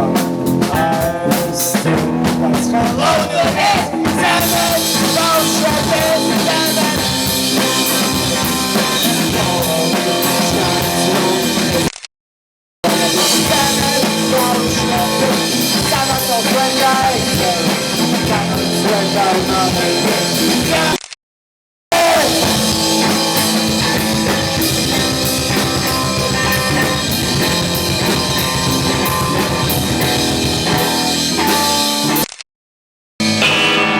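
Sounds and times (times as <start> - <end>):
punk rock band playing: 0.0 - 11.9, 12.8 - 21.0, 21.9 - 32.2, 33.2 - 33.9.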